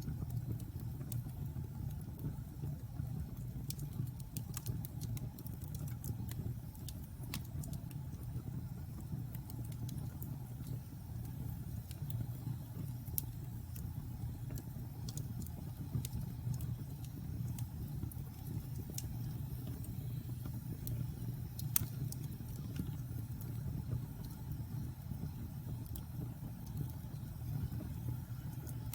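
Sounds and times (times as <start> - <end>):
fire crackling and popping: 0.0 - 28.9
fire roaring in fireplace: 0.0 - 28.9.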